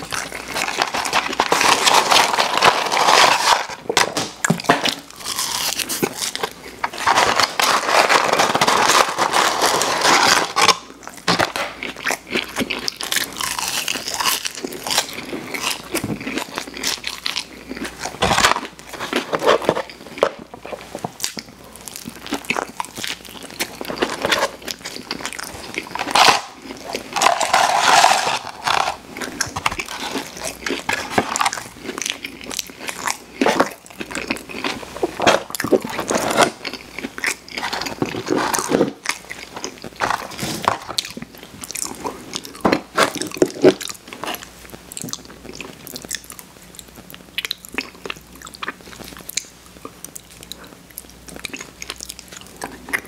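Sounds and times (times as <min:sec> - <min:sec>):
biting and chewing a burger: 0:00.0 - 0:53.0
crunchy chewing of fries: 0:00.0 - 0:53.0.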